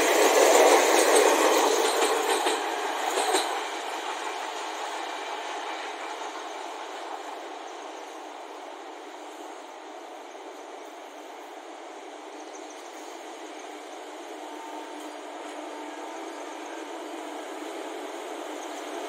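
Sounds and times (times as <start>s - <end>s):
rushing rumble of running train: 0.0s - 19.0s.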